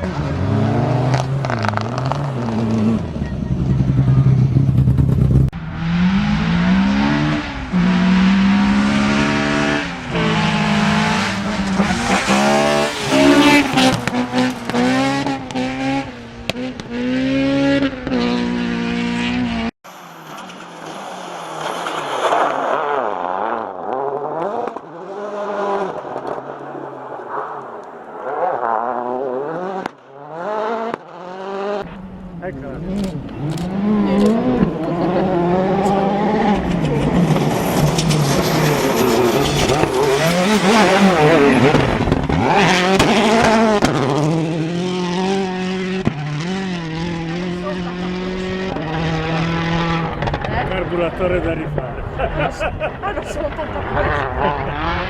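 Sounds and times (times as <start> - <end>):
rally car engines revving hard: 0.0 - 27.5, 28.2 - 55.0
distant car engine revving: 0.0 - 55.0.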